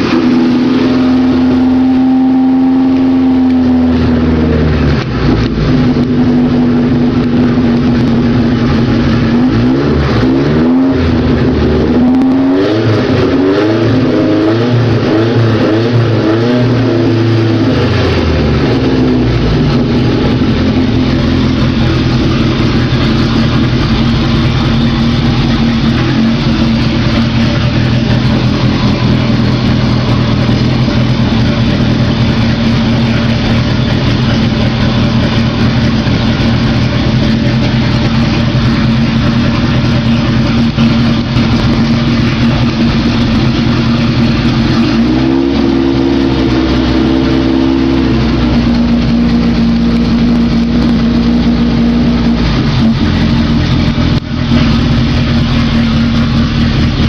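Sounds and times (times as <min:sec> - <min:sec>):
car engine running and revving: 0:00.0 - 0:57.0.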